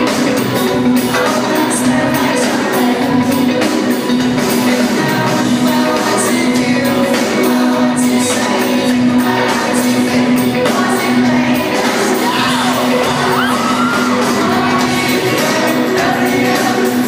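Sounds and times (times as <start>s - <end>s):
live pop-rock band: 0.0s - 17.0s
person singing: 0.0s - 17.0s.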